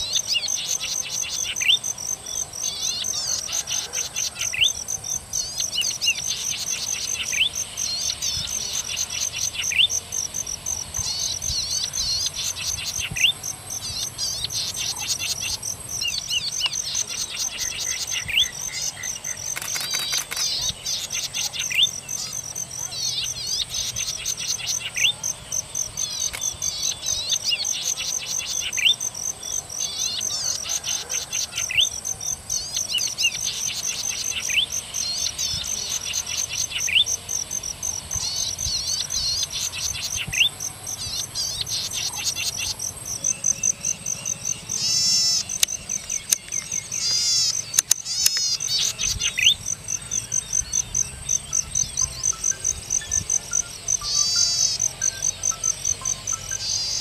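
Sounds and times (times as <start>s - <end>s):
bird singing buzzing trills: 0.0s - 57.0s.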